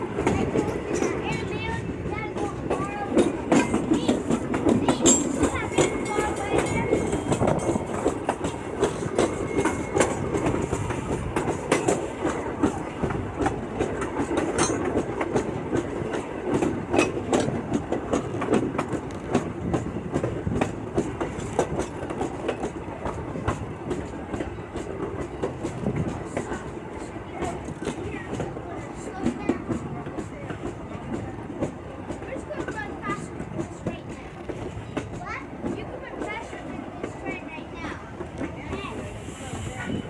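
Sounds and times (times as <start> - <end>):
track clicks and clacks: 0.0 - 39.6
train wheels rumbling on rails: 0.0 - 40.0.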